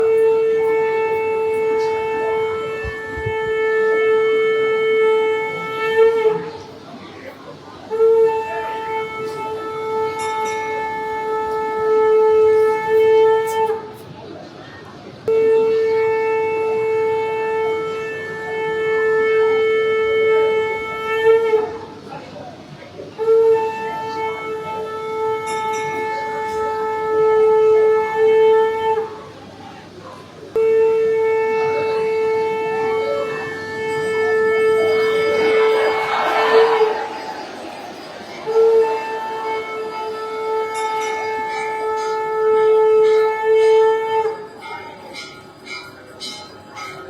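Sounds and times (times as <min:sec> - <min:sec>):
conch shell blown: 0:00.0 - 0:06.8, 0:07.9 - 0:14.0, 0:15.2 - 0:22.1, 0:23.2 - 0:29.3, 0:30.5 - 0:47.0.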